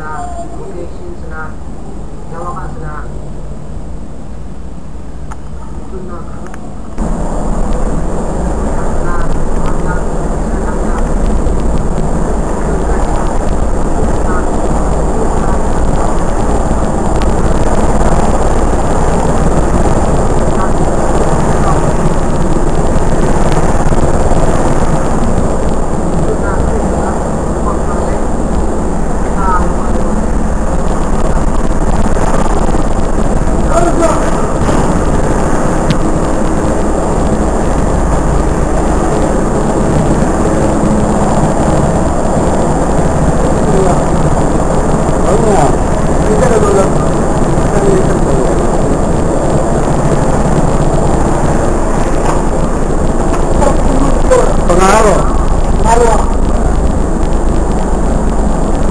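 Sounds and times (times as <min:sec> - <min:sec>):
engine drone with deep rumble: 0:00.0 - 0:58.9
helicopter flying low past: 0:00.0 - 0:58.9.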